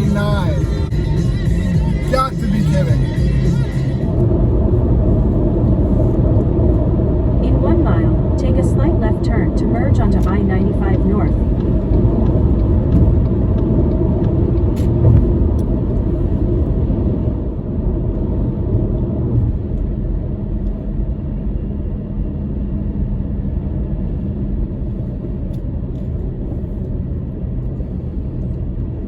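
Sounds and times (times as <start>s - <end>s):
car road and engine noise: 0.0s - 29.0s.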